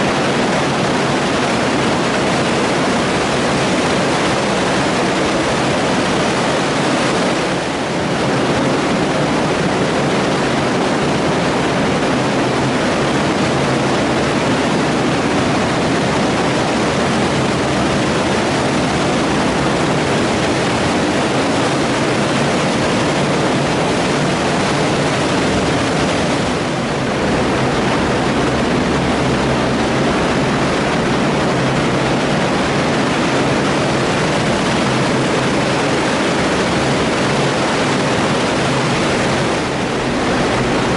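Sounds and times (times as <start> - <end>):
turbulent water rushing: 0.0 - 40.9.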